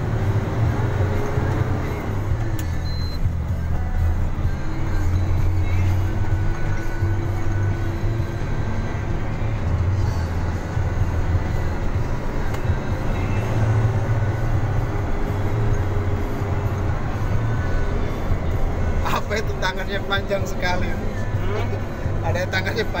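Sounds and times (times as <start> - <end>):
vehicle engine and tyre rumble: 0.0 - 23.0.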